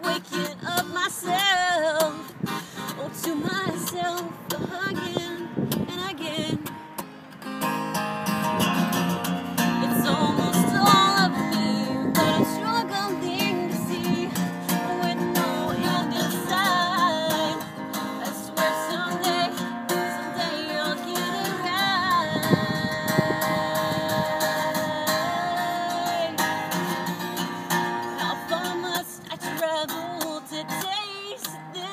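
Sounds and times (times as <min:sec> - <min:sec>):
woman singing: 0:00.0 - 0:06.8, 0:09.6 - 0:26.8, 0:27.9 - 0:31.9
acoustic guitar strumming: 0:00.0 - 0:31.9.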